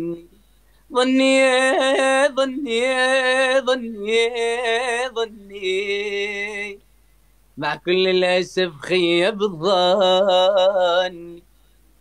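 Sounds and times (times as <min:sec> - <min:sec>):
man singing unaccompanied: 0:00.0 - 0:06.9, 0:07.6 - 0:11.5.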